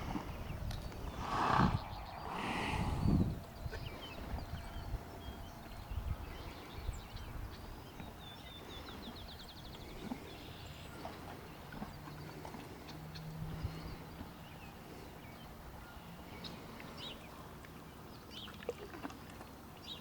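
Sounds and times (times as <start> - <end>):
small birds chirping: 0.1 - 18.6.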